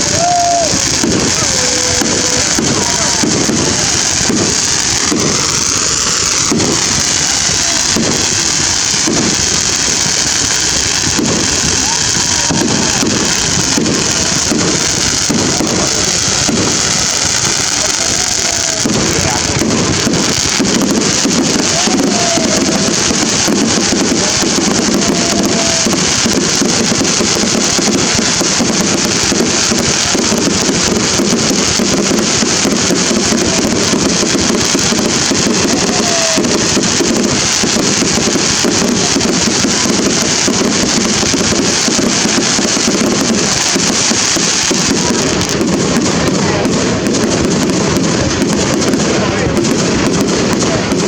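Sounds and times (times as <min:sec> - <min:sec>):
firework whistles: 0:00.0 - 0:51.0
fireworks crackling and banging: 0:00.0 - 0:51.0.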